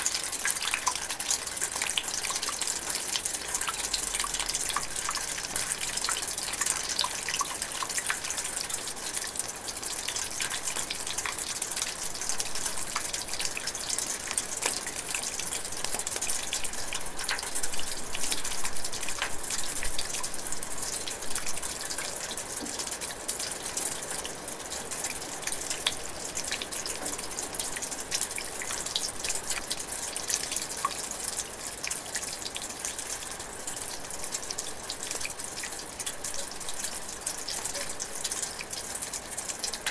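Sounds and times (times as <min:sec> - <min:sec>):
light rain drizzling: 0:00.0 - 0:39.9.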